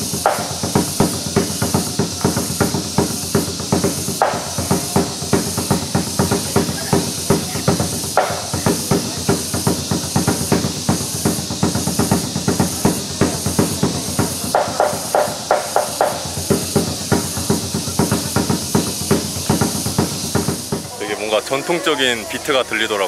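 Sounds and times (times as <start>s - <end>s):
quick steady drumbeat: 0.0s - 23.0s
traditional dance music: 0.0s - 23.0s.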